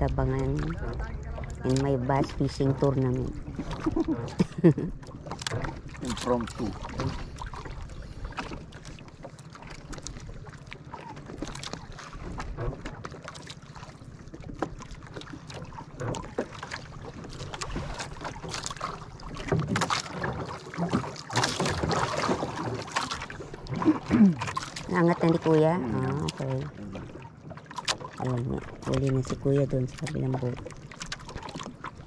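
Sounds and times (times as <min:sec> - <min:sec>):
small waves lapping against boat hull: 0:00.0 - 0:32.0.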